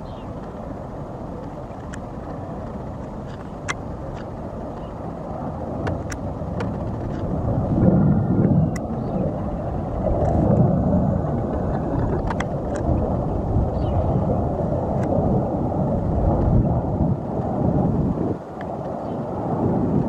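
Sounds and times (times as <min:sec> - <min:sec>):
jet aircraft roar: 0:00.0 - 0:20.0.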